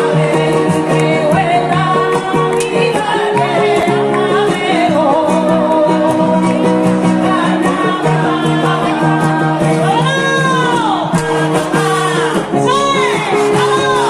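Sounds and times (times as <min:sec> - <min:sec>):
strummed guitar: 0:00.0 - 0:14.0
woman singing with vibrato: 0:00.0 - 0:14.0.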